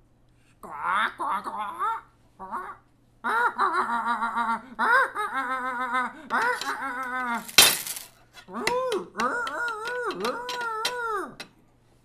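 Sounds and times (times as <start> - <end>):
person making sing-song vocal sounds: 0.6 - 7.5, 8.4 - 11.5.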